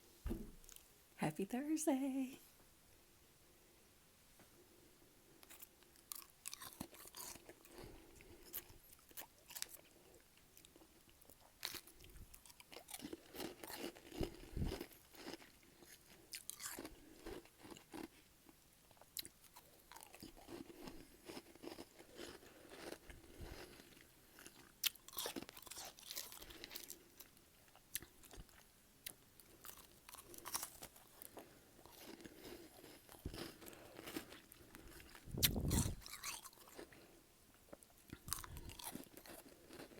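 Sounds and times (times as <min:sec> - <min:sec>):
crunching and chewing frost: 0:05.3 - 0:39.9.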